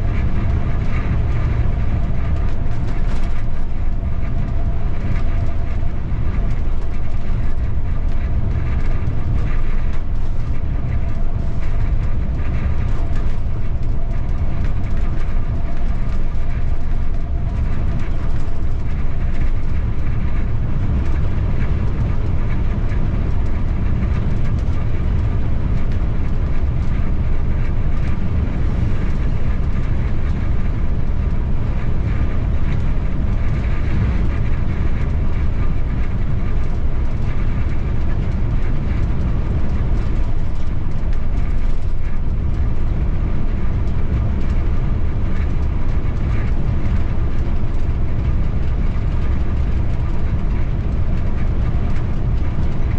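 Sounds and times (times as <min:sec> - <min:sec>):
bus engine rumble: 0:00.0 - 0:52.9
road noise: 0:00.0 - 0:52.9.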